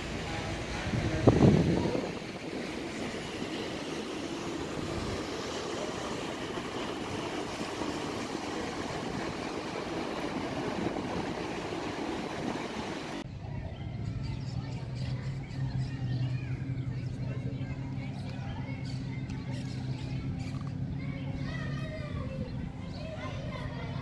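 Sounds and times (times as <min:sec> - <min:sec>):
moving vehicle rumble and hiss: 0:00.0 - 0:24.0.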